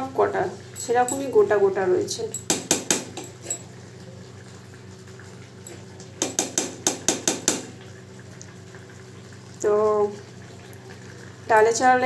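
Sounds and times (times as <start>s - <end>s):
low steady hum: 0.0s - 6.3s, 7.6s - 12.0s
pot cooking on stove: 0.0s - 12.0s.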